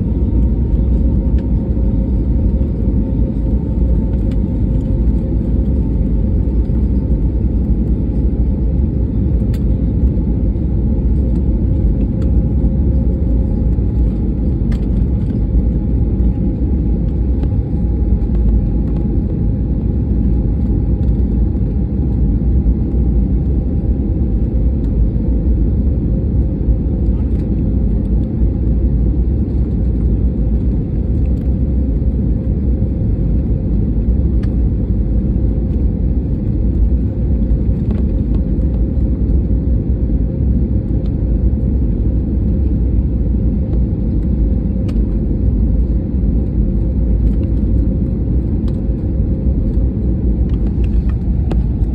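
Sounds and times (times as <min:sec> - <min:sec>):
faint hums: 0:00.0 - 0:51.9
jet engines rumbling in cabin: 0:00.0 - 0:51.9.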